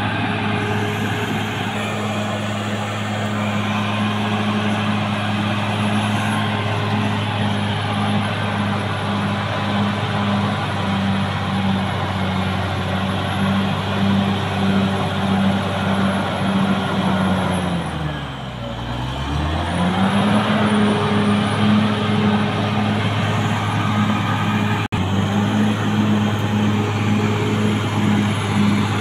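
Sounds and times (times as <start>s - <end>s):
bulldozer diesel engine: 0.0s - 29.0s.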